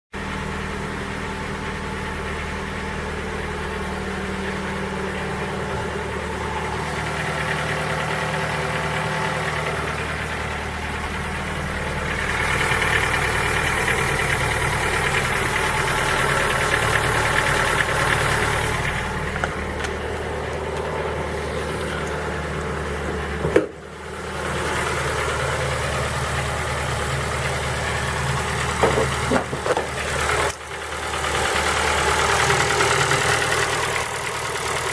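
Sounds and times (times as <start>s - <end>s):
petrol engine idling with knock: 0.2s - 34.9s.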